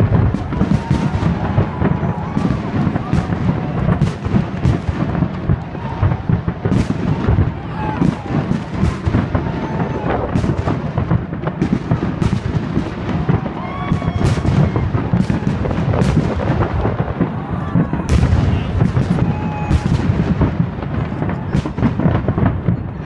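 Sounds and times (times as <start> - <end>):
fireworks bangs and booms: 0.0 - 23.0.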